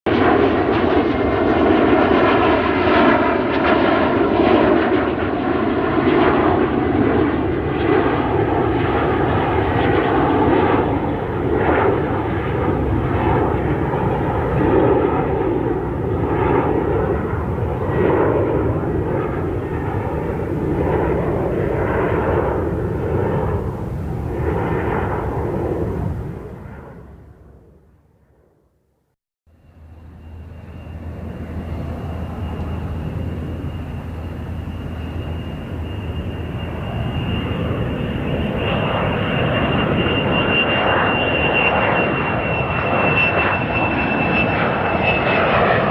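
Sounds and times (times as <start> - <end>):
jet engines rumbling: 0.1 - 28.6, 29.5 - 45.9.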